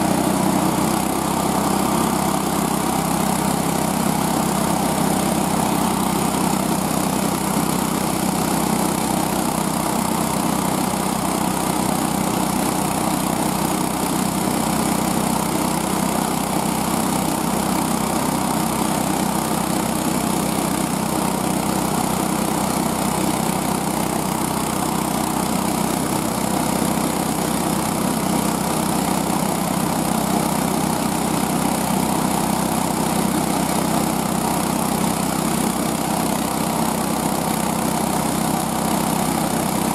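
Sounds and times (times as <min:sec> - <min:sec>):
small sled engine running: 0:00.0 - 0:39.9.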